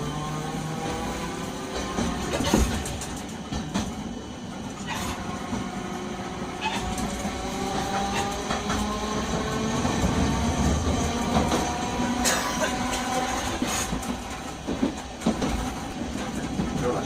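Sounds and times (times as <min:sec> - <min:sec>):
tram motor whine: 0:00.0 - 0:17.0
tram running rumble: 0:00.0 - 0:17.0
wheels clacking on rails: 0:00.0 - 0:17.0.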